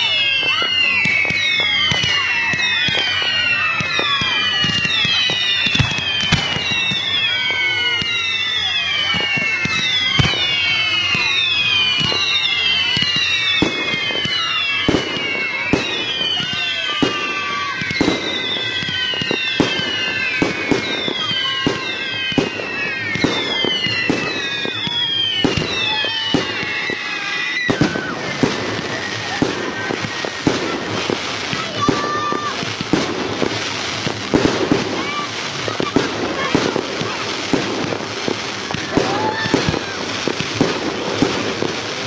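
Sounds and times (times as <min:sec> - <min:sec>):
firework bangs: 0:00.0 - 0:42.0
firework crackle: 0:00.0 - 0:42.0
firework whistles falling in pitch: 0:00.0 - 0:42.0.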